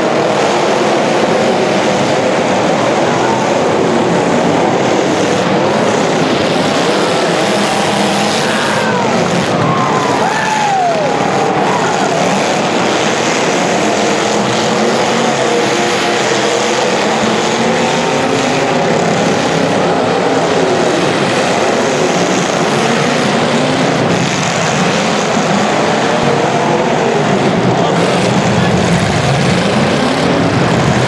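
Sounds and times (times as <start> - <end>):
small racing engines whining: 0.0 - 31.0.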